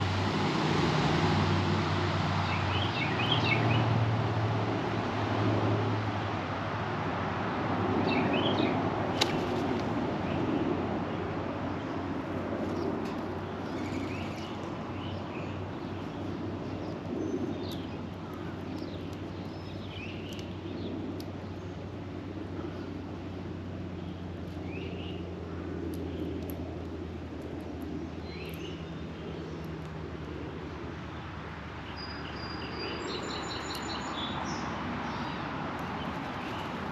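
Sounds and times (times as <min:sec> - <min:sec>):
distant traffic rumble: 0:00.0 - 0:36.9
small birds chirping: 0:02.4 - 0:03.9, 0:08.0 - 0:36.9.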